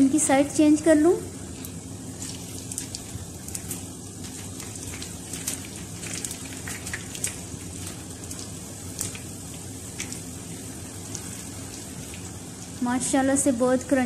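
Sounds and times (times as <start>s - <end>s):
deep-frying sizzle: 0.0s - 14.0s
oil crackles and pops: 1.4s - 13.9s.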